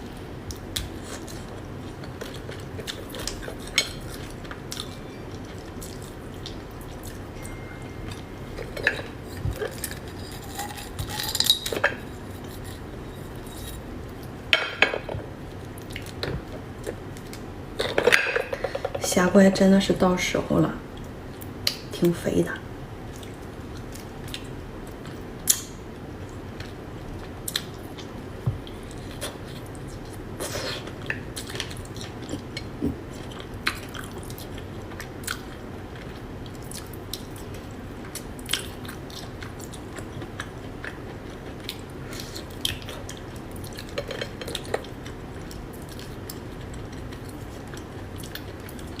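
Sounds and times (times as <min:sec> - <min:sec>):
person chewing: 0:00.4 - 0:14.4, 0:23.1 - 0:49.0.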